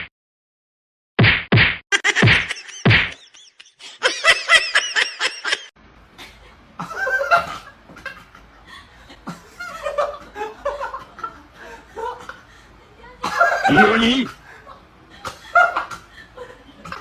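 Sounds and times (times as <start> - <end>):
people laughing and snickering: 1.9 - 17.0.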